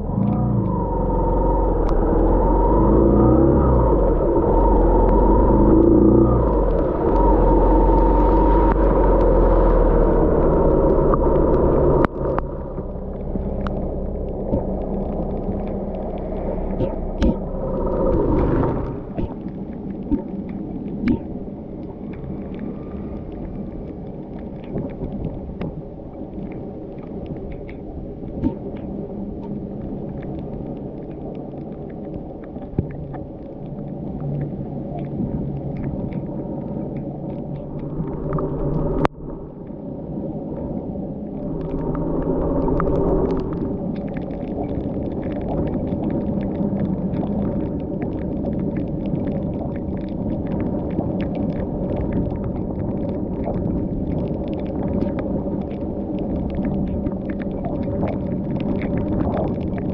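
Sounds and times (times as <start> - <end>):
car engine and road noise: 0.0 - 57.2.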